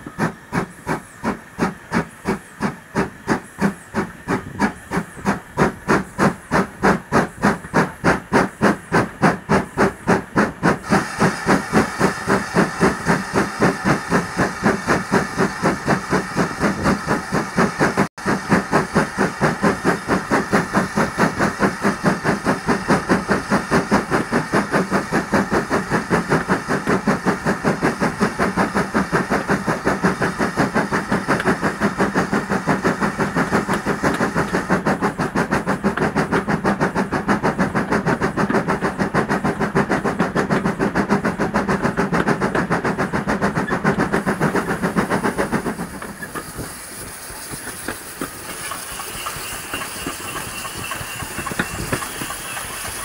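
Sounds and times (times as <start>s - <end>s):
steam hiss: 0.0s - 53.0s
steam locomotive chuffing: 0.0s - 53.0s.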